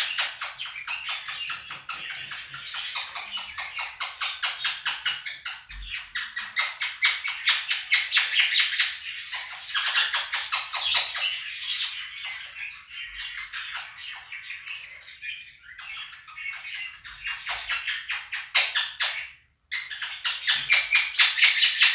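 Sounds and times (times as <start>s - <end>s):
parrots squawking and chattering: 0.0s - 21.9s.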